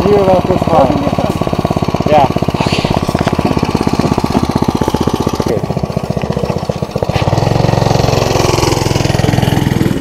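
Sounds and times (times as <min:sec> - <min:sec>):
go-kart engine running: 0:00.0 - 0:10.0.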